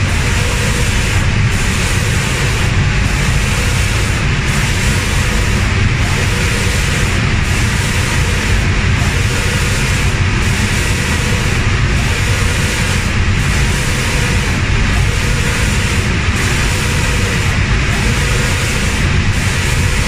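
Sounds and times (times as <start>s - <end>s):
hiss of air spray guns: 0.0s - 20.0s
low machine rumble: 0.0s - 20.0s.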